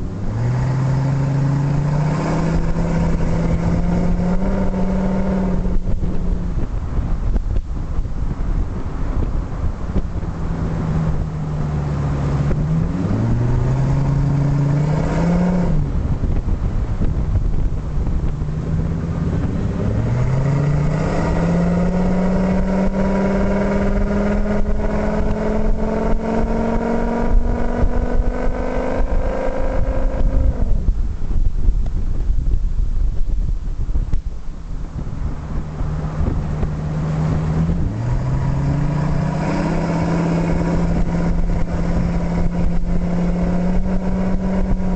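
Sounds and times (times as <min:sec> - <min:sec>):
engine revving: 0:00.0 - 0:07.4, 0:10.0 - 0:31.0, 0:35.2 - 0:44.9.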